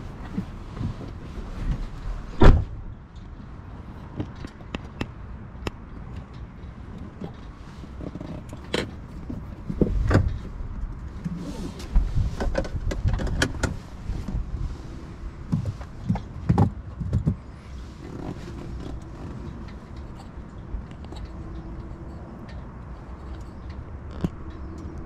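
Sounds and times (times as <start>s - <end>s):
handling clicks and thumps in car: 0.0s - 14.5s, 15.4s - 25.0s.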